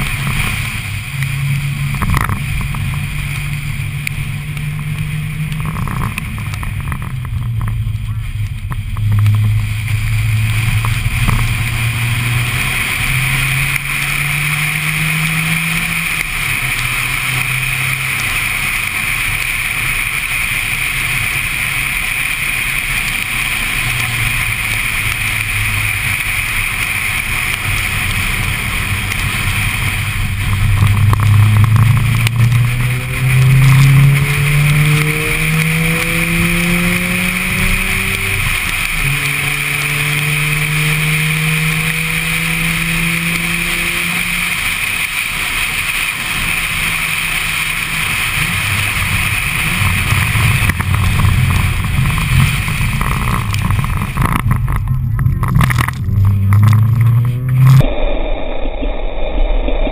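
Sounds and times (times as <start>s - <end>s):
tyres hissing on wet track: 0.0s - 6.9s, 8.2s - 54.8s
rotary engine revving: 0.0s - 57.9s.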